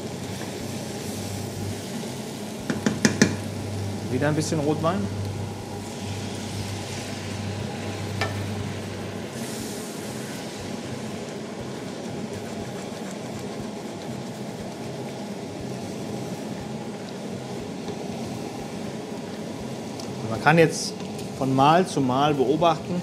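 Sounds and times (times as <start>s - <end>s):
vegetables sizzling in a pot: 0.0s - 23.0s.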